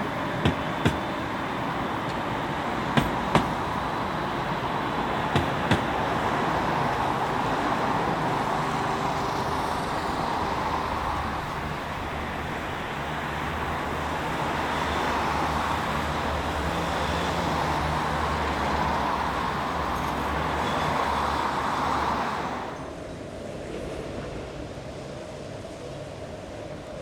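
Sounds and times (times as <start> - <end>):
tram motor hum: 0.0 - 23.5
road noise: 0.0 - 27.0.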